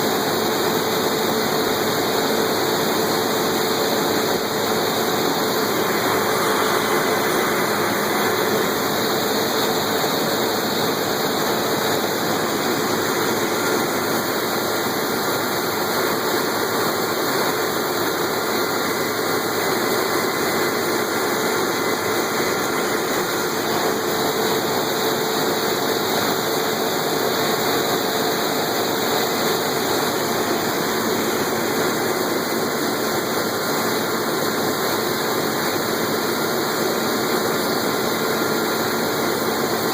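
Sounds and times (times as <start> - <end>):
harvest machinery engine drone: 0.0 - 39.9.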